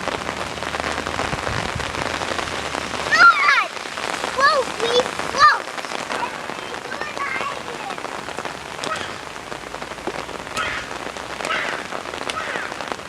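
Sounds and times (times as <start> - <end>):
rain pattering on surfaces: 0.0 - 13.0.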